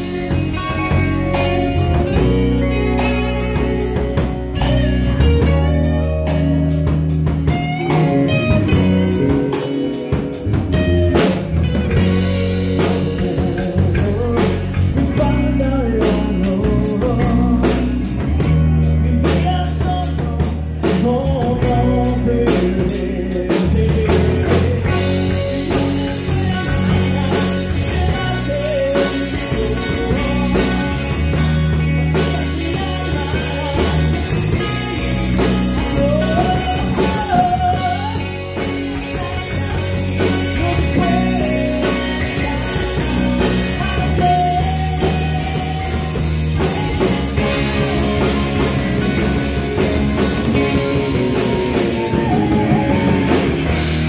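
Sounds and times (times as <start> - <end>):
person singing: 0.0 - 54.0
rock band playing: 0.0 - 54.0.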